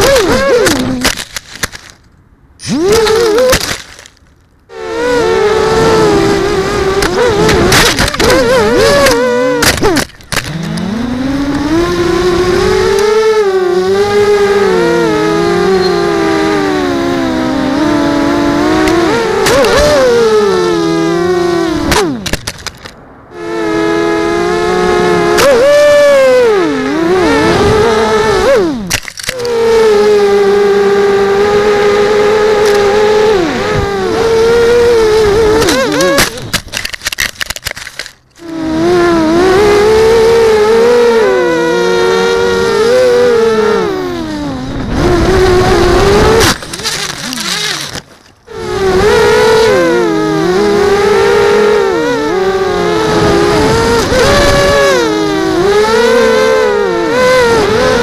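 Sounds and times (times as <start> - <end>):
drone motors whining: 0.0 - 2.0, 2.6 - 58.0.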